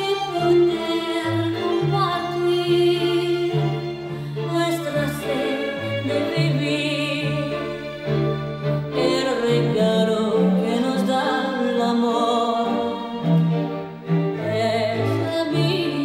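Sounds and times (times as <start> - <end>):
bowed strings: 0.0 - 16.0.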